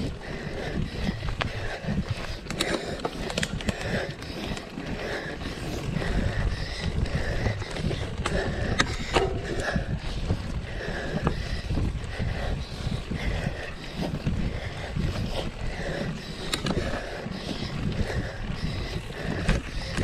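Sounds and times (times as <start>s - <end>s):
bike rattles and clicks: 0.0s - 20.0s
bike tyres rumbling: 0.0s - 20.0s
wind on microphone: 0.0s - 20.0s.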